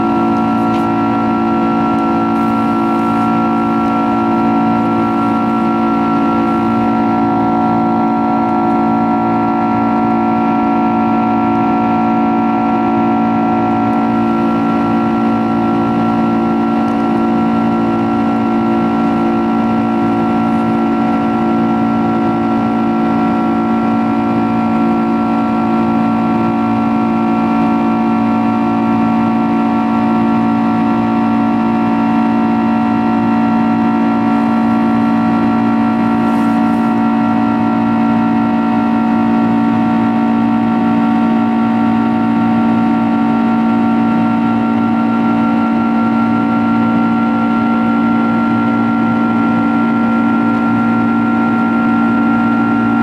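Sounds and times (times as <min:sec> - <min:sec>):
jet engine drone with whining tones: 0:00.0 - 0:53.0.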